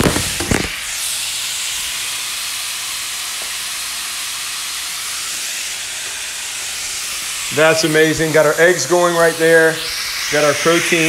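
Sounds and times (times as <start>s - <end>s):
meat and onions sizzling: 0.0s - 11.0s.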